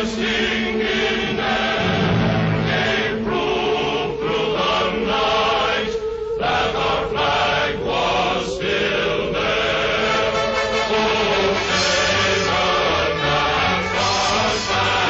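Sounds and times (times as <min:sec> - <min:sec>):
choir chanting long held notes: 0:00.0 - 0:15.0.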